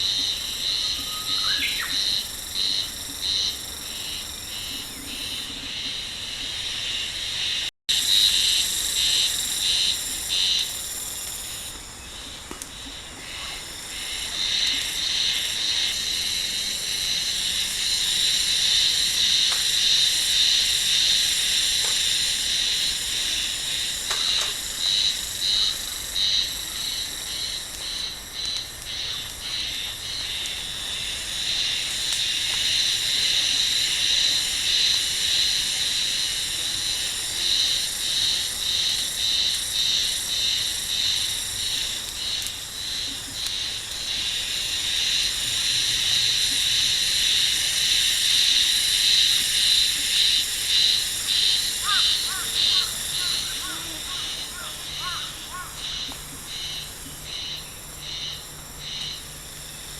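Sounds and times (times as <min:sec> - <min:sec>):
insects singing: 0:00.0 - 0:59.9.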